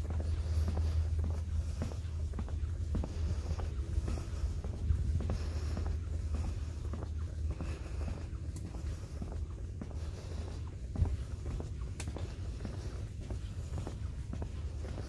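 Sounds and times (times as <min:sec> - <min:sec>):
footsteps on wooden boardwalk: 0:00.0 - 0:15.0
steady low rumble: 0:00.0 - 0:15.0.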